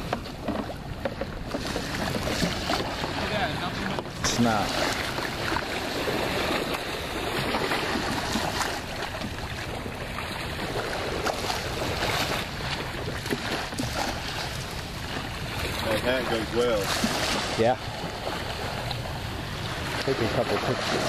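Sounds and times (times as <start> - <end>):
ocean surf washing: 0.0 - 21.0
wind: 0.0 - 21.0.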